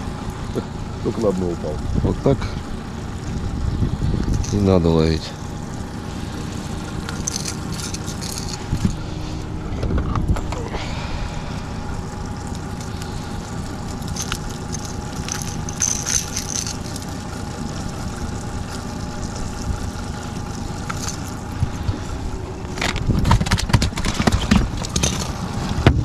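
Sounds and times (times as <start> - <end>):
hull and water rumble: 0.0 - 26.0
outboard motor running: 0.0 - 26.0.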